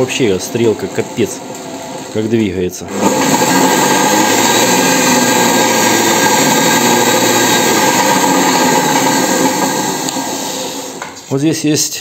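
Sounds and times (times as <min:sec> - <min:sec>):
lathe motor whirring: 0:00.0 - 0:11.2.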